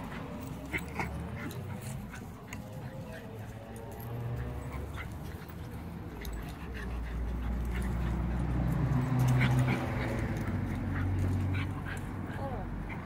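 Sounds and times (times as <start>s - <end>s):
dogs growling while play-fighting: 0.0s - 13.0s.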